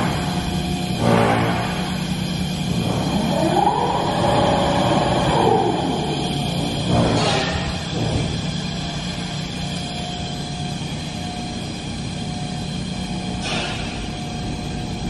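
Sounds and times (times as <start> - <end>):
industrial machinery humming: 0.0 - 15.0.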